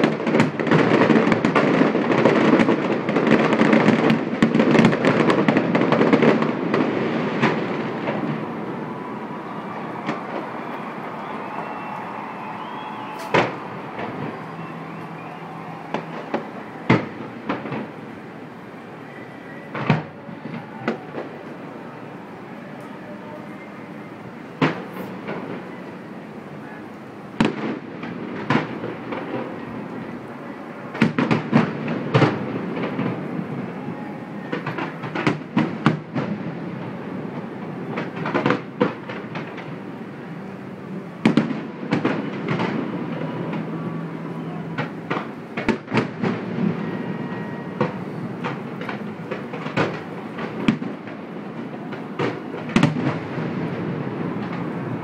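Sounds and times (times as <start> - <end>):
fireworks bangs with echo: 0.0 - 55.0
steady background noise: 0.0 - 55.0.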